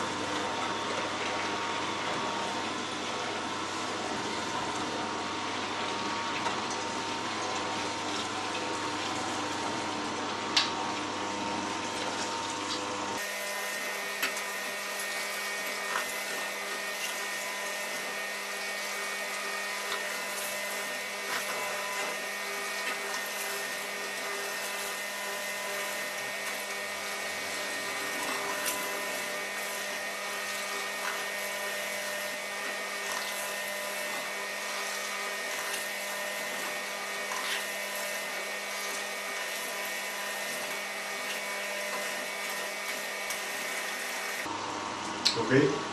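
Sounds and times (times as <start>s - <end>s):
juicer motor hum: 0.0s - 45.9s.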